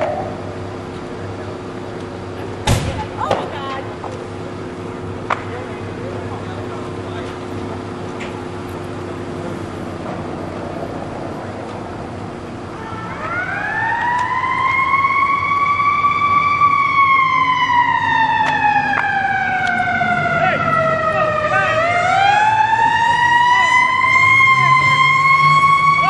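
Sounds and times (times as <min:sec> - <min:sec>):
fire engine siren wailing: 0:00.0 - 0:03.2, 0:03.8 - 0:26.0.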